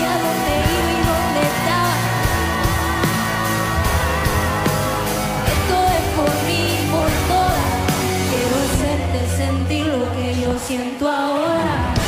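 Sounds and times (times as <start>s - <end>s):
person singing lead: 0.0s - 4.6s, 5.4s - 12.0s
live rock band playing: 0.0s - 10.9s.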